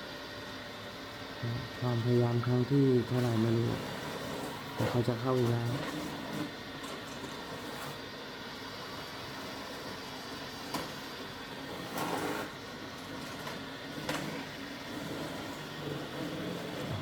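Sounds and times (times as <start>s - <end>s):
robot vacuum running: 1.3s - 17.0s.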